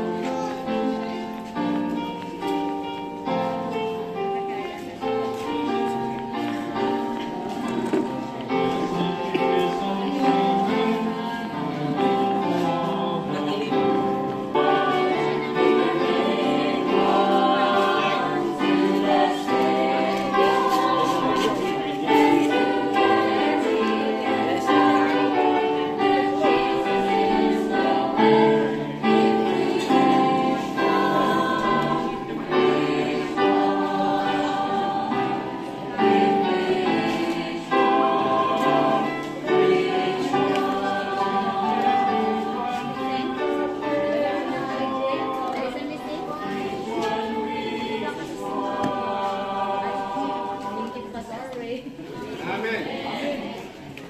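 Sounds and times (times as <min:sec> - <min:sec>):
group of voices singing: 0:00.0 - 0:54.0.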